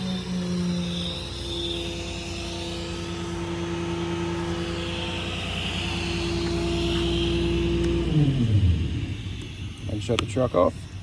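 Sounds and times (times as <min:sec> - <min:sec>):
diesel truck engine running: 0:00.0 - 0:11.0
engine winding down: 0:00.0 - 0:11.0.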